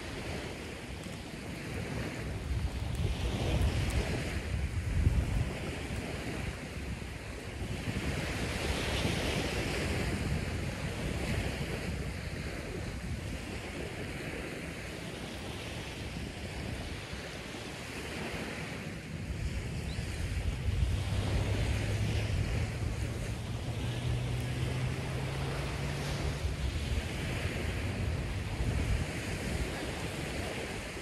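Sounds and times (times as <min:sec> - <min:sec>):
surf: 0:00.0 - 0:31.0
wind: 0:00.0 - 0:31.0
wind rumble on microphone: 0:00.0 - 0:31.0.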